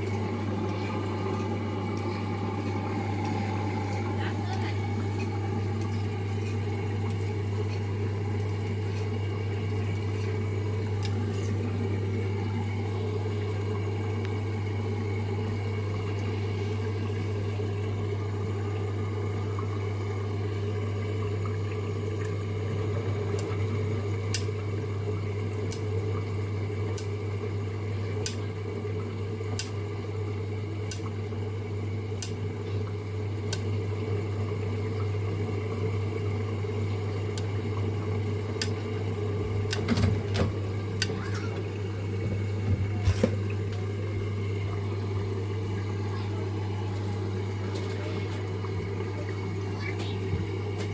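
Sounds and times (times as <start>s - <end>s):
washing machine humming and churning: 0.0s - 50.9s
water gurgling: 0.0s - 50.9s.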